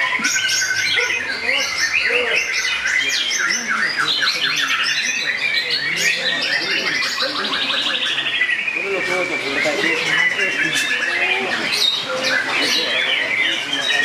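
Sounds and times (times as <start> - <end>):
songbirds trilling and chirping: 0.0 - 14.0.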